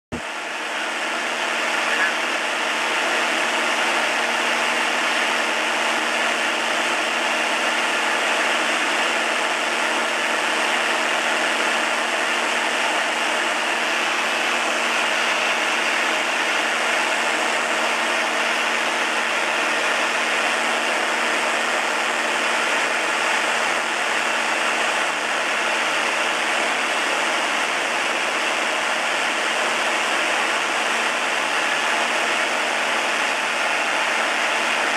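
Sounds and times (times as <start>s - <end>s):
aircraft engine and propeller drone: 0.1s - 34.9s
rush of noise: 0.1s - 34.9s.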